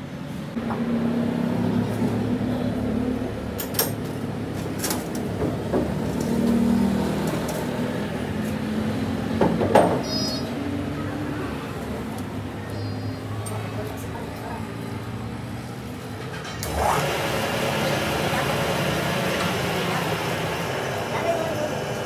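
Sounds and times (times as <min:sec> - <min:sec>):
workshop machinery humming: 0:00.0 - 0:22.0.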